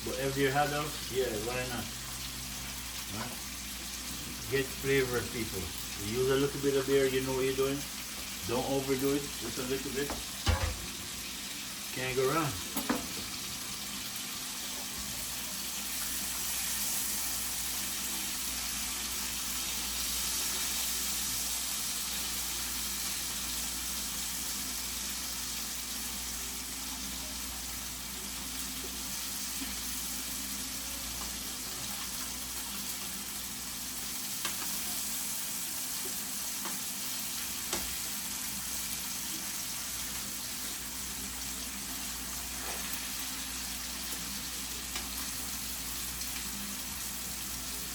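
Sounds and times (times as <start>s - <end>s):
chicken sizzling in a pan: 0.0s - 47.9s.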